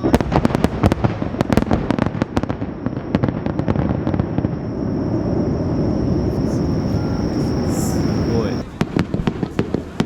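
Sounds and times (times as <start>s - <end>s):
fireworks bursts and crackles: 0.0s - 10.0s
low fireworks rumble: 0.0s - 10.0s.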